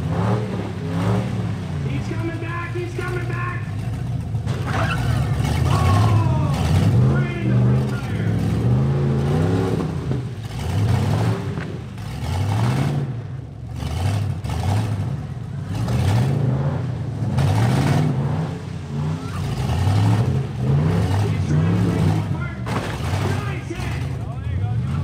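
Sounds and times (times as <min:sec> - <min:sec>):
truck engines revving: 0:00.0 - 0:25.0.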